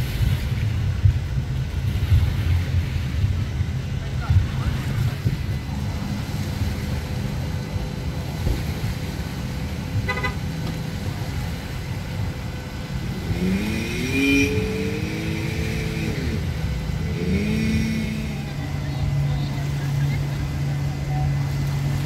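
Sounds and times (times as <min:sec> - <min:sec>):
boat engines idling: 0:00.0 - 0:22.0
engine revving: 0:03.8 - 0:22.0.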